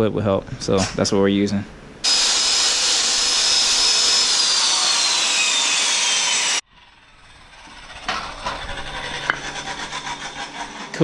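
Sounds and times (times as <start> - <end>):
power saw cutting wood: 2.0 - 11.0.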